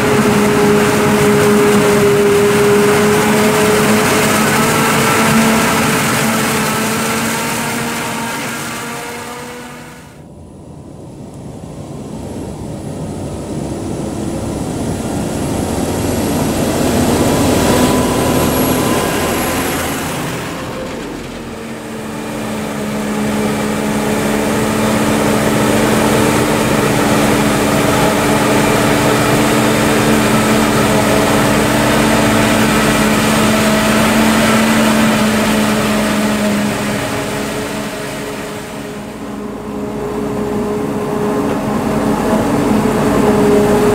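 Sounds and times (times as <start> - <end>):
heavy machine drone with hum: 0.0 - 43.9
tractor engine: 0.0 - 43.9.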